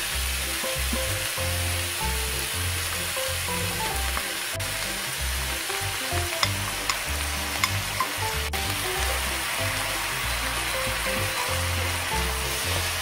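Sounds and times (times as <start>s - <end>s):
background music with bass line: 0.0s - 13.0s
food sizzling in a wok: 0.0s - 13.0s.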